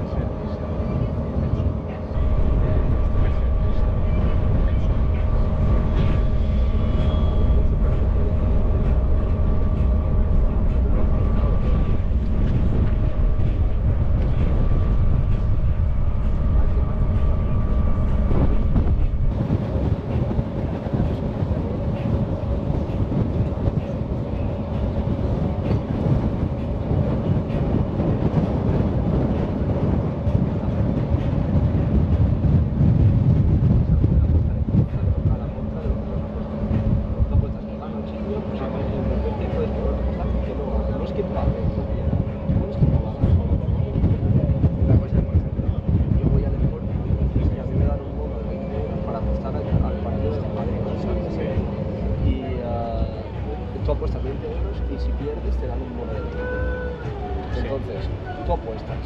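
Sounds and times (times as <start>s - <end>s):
ferry engine droning: 0.0s - 59.0s
steady hum: 0.0s - 59.0s.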